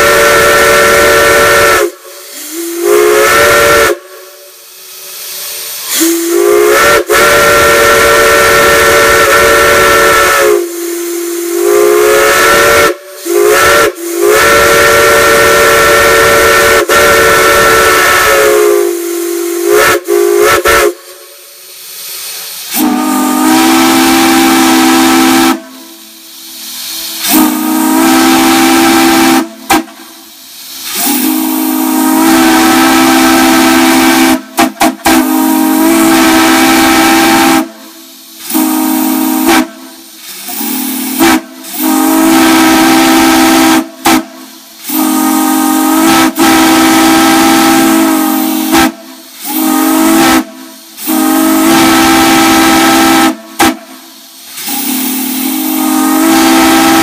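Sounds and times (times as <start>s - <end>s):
hissing steam: 0.0s - 57.0s
steam whistle blasts: 0.0s - 57.0s.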